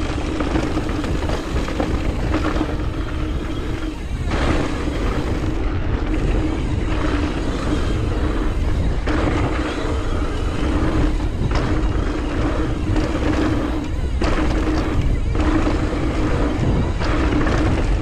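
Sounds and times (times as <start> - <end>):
bike tyres rumbling on dirt: 0.0 - 18.0
wind: 0.0 - 18.0.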